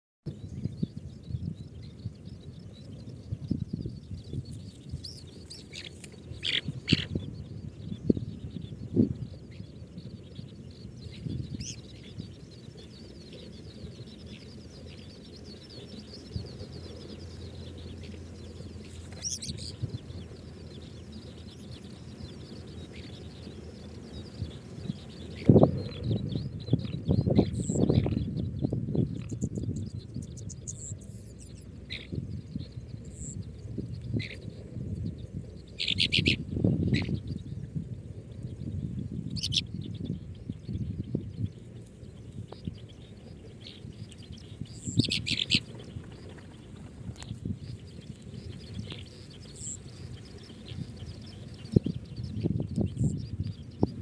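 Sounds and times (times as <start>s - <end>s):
low background rumble: 0.3s - 54.0s
nestlings high-pitched chirping: 0.7s - 34.4s, 35.1s - 37.5s, 38.6s - 54.0s.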